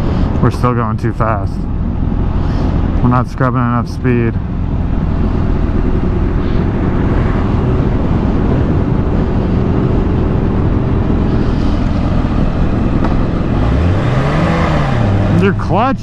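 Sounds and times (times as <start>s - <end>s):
motorcycle engine running: 1.5s - 16.0s
wind noise: 1.6s - 16.0s.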